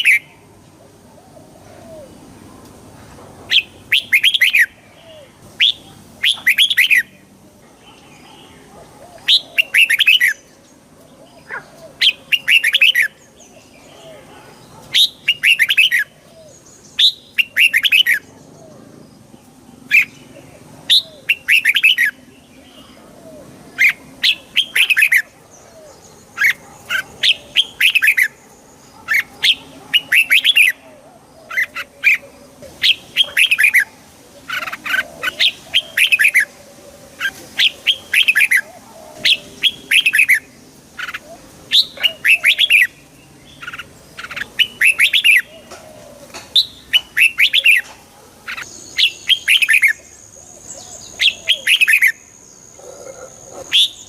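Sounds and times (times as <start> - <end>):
bulbul singing warbled phrases: 0.0 - 2.8, 3.5 - 54.0.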